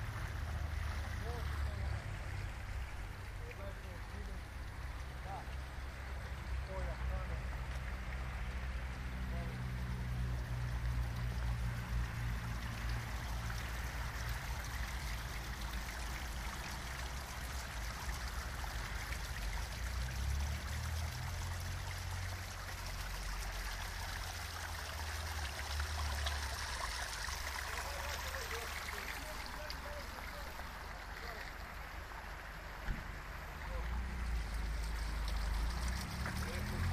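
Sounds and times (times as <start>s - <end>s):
water splashing over stones: 0.0s - 36.9s.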